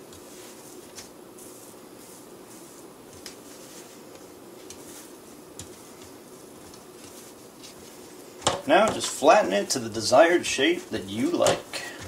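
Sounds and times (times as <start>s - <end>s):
soft taps and rustles: 0.0s - 1.7s, 2.5s - 10.3s, 10.9s - 12.0s
room hum: 0.0s - 12.0s.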